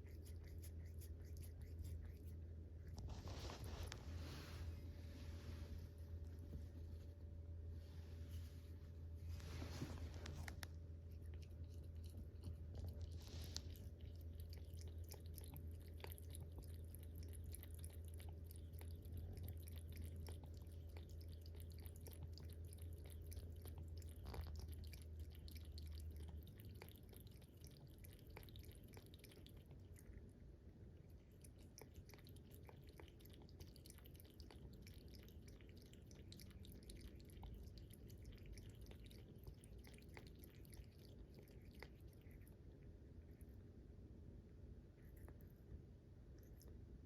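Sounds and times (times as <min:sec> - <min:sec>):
cat lapping water: 0:00.0 - 0:05.4, 0:09.3 - 0:43.7
low steady hum: 0:00.0 - 0:47.0.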